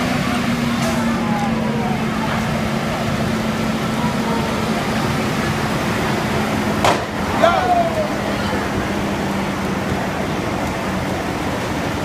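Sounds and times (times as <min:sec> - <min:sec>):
fire engine pump running: 0:00.0 - 0:12.0.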